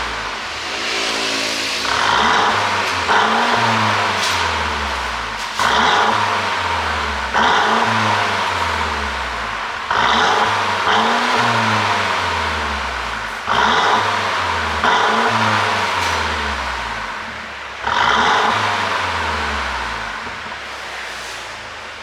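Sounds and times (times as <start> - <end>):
exhaust pops: 0.0 - 21.2
car engine revving: 0.0 - 22.0.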